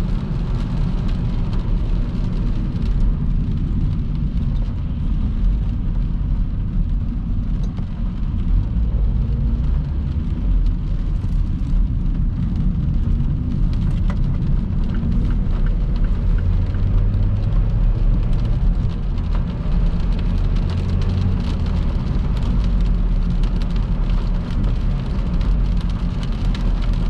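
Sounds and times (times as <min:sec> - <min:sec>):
car and road rumble: 0:00.0 - 0:27.0
heavy rain hitting a car: 0:00.0 - 0:27.0.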